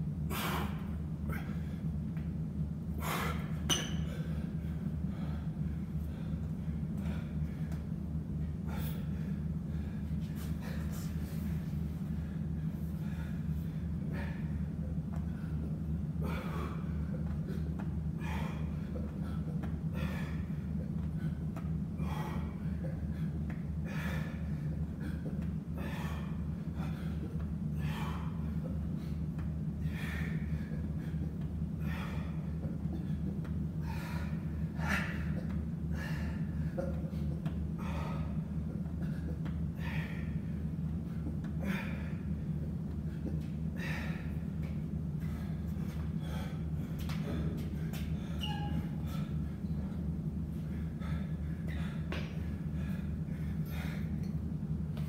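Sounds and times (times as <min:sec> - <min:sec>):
steady low hum: 0:00.0 - 0:55.0
man breathing hard in gasps: 0:08.6 - 0:49.7, 0:50.5 - 0:55.0.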